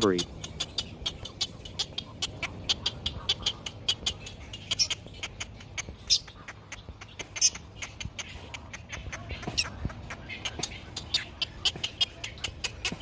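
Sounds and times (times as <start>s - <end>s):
nestlings chattering clicking calls: 0.0s - 13.0s.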